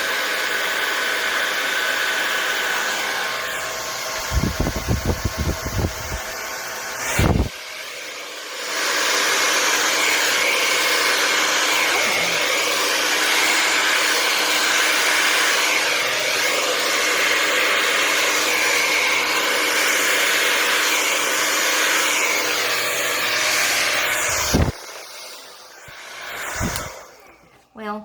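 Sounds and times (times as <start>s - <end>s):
blow dryer running: 0.0s - 28.0s.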